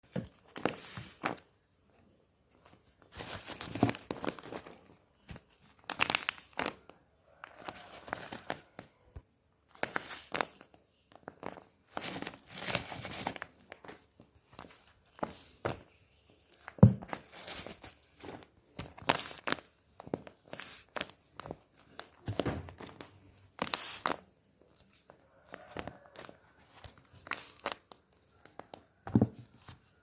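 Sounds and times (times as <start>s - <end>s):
plastic packaging crinkling: 2.8s - 8.8s, 9.7s - 15.4s, 16.5s - 29.3s.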